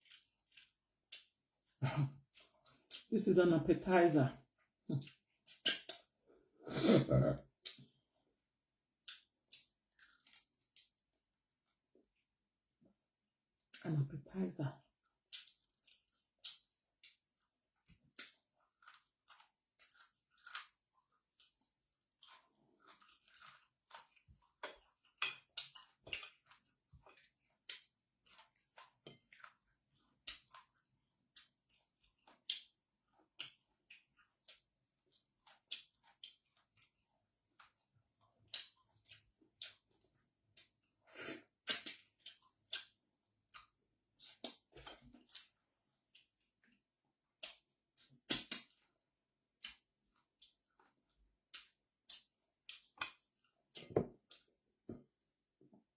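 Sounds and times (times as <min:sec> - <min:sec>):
person chewing food: 0:00.0 - 0:03.1, 0:04.9 - 0:08.0, 0:09.0 - 0:12.2, 0:14.8 - 0:55.4.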